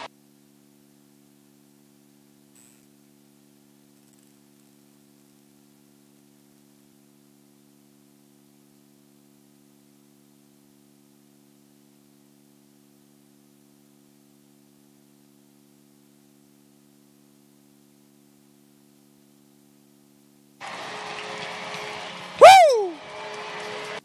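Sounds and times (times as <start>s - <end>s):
faint low hum: 0.0s - 20.6s.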